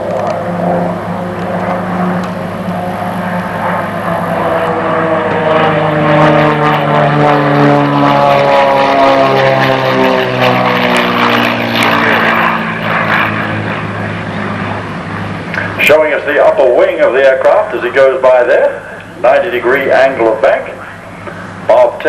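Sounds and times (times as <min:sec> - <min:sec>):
propeller aircraft droning past: 0:00.0 - 0:22.0.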